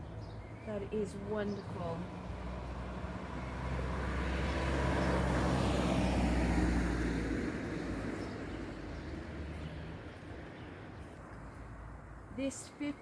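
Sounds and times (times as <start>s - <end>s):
vehicle passing on road: 0.0s - 12.3s.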